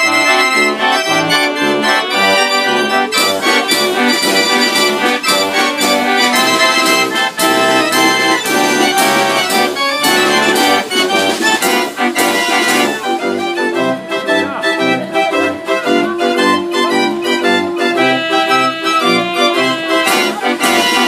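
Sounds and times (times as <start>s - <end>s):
fair organ playing a tune: 0.0s - 21.0s.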